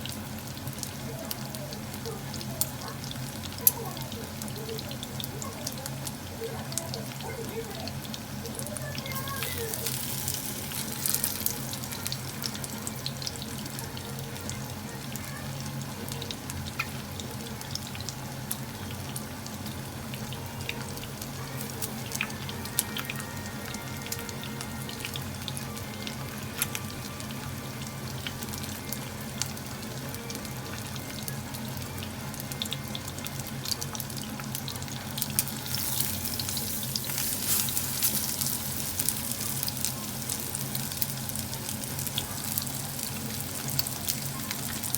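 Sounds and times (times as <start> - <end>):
chicken frying in hot oil: 0.0 - 44.9.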